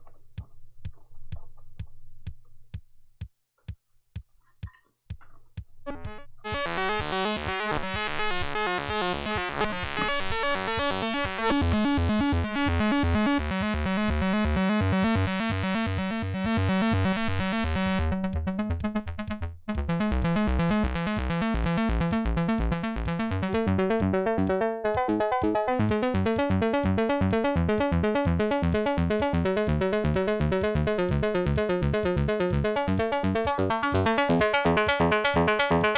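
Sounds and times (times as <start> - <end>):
pulsing synth bass: 5.9 - 35.9
synthesizer arpeggio: 5.9 - 35.9.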